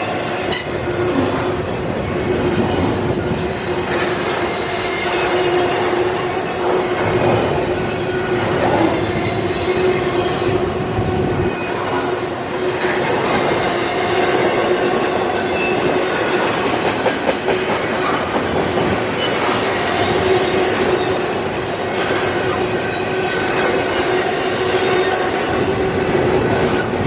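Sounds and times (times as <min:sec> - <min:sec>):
train wheels rolling on rail: 0:00.0 - 0:27.0.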